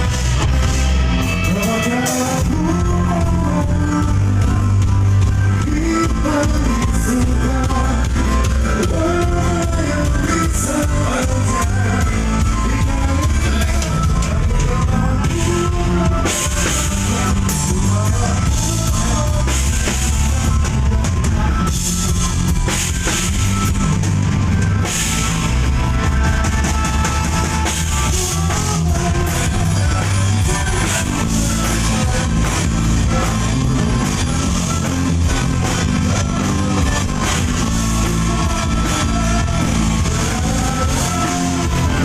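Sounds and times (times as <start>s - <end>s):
drum kit: 0.0s - 42.0s
heavy bass line: 0.0s - 42.0s
live band playing loudly: 0.0s - 42.0s.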